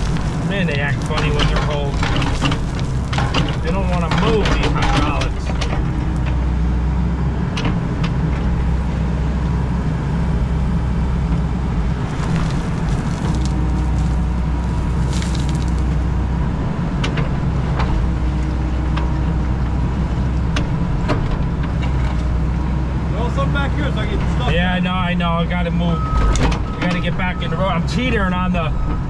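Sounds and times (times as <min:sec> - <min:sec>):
excavator diesel engine running: 0:00.0 - 0:29.0
hydraulics working: 0:00.0 - 0:29.0.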